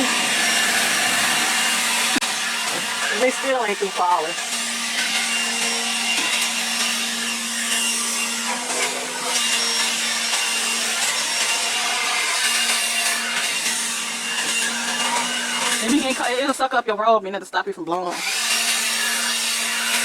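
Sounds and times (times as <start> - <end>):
leaf blower running: 0.0 - 16.7, 18.0 - 20.0.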